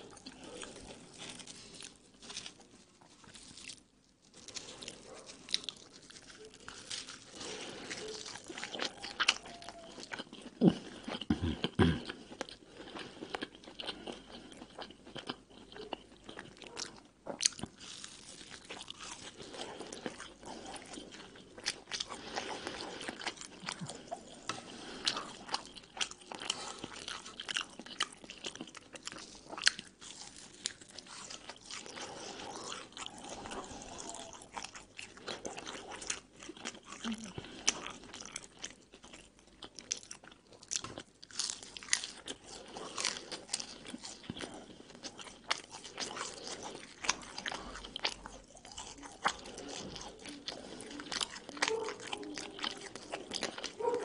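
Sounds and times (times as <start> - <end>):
crunchy bread crust chewing: 0.0 - 54.0.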